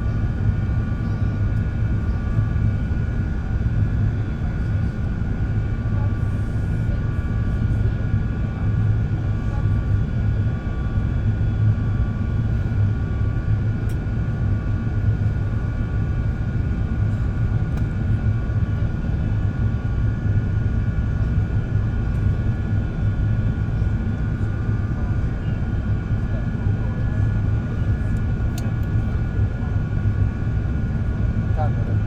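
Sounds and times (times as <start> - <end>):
airliner cabin engine drone: 0.0 - 32.0.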